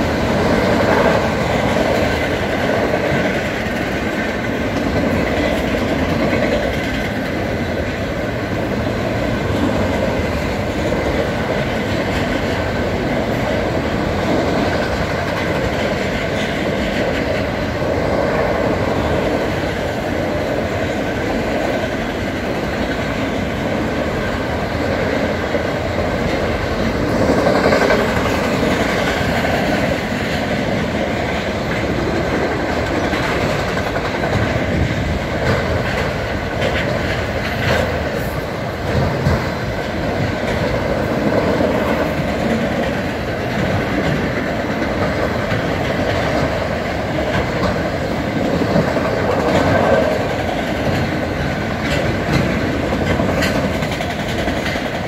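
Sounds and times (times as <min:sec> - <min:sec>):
freight train rumbling past: 0:00.0 - 0:55.0
wheels clattering over rail joints: 0:00.0 - 0:55.0.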